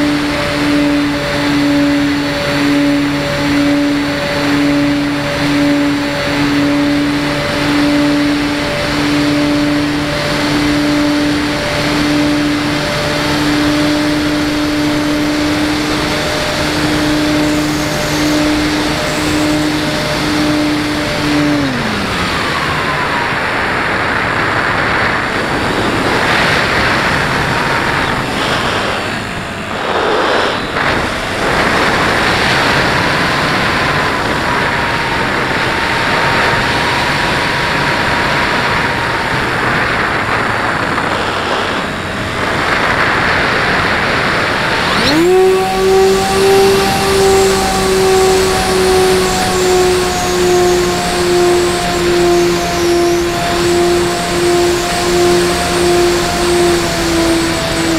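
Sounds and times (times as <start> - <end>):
faint rising and falling whine: 0.0 - 57.9
small electric motor whining: 0.0 - 57.9.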